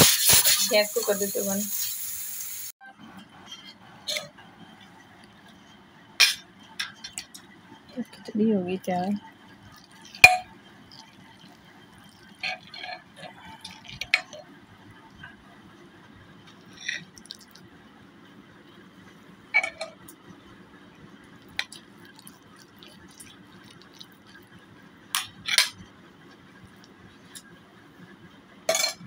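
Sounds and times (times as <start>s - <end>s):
steady low hum: 2.8s - 29.0s.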